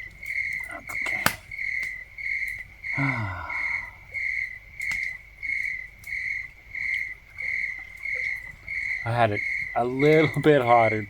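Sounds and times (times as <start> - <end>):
cricket chirping: 0.0 - 11.0
faint clicks: 0.0 - 11.0.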